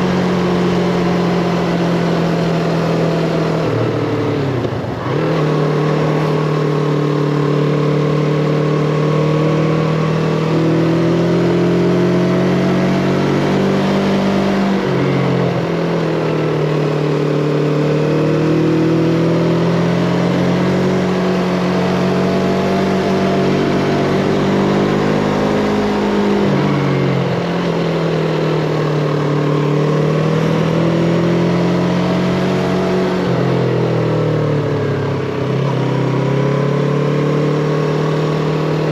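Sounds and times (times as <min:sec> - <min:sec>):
motorcycle engine revving: 0:00.0 - 0:38.9
wind and road rush: 0:00.0 - 0:38.9.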